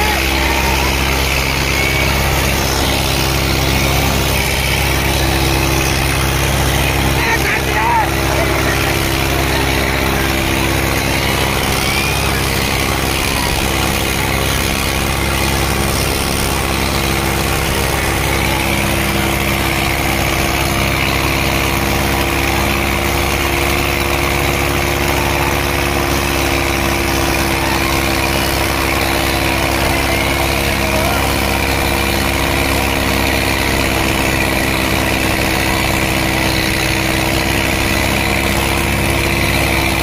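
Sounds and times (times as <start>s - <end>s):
tractor engine straining: 0.0s - 40.0s.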